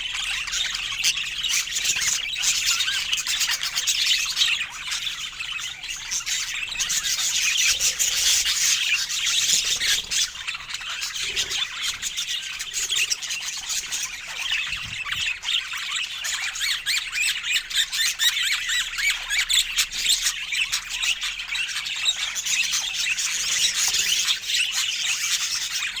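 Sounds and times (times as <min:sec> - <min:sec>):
budgerigars chattering and warbling: 0:00.0 - 0:26.0.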